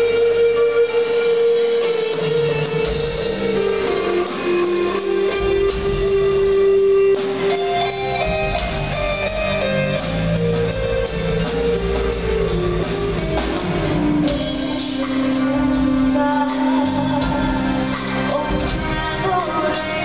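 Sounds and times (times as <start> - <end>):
bass and drums: 0.0 - 20.0
electric guitars playing melody: 0.0 - 20.0.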